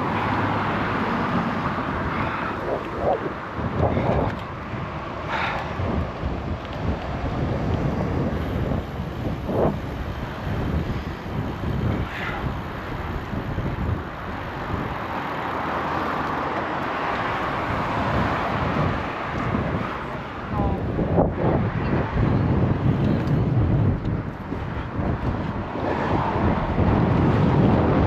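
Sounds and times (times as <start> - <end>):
street traffic noise: 0.0 - 28.0
wind rumbling on microphone: 0.0 - 28.0.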